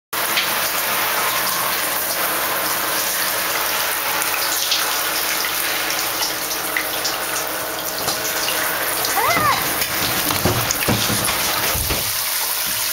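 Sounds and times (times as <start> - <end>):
shower water spraying: 0.3 - 12.9.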